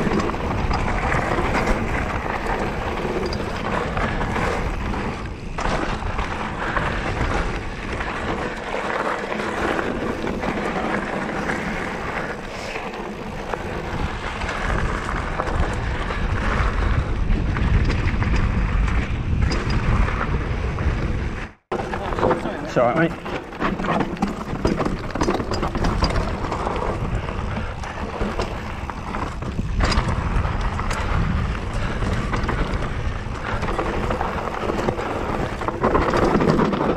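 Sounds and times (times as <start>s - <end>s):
wind buffeting microphone: 0.0s - 23.6s, 24.3s - 36.9s
bike rattling: 0.0s - 36.9s
bike tyres rolling on dirt: 0.0s - 36.9s.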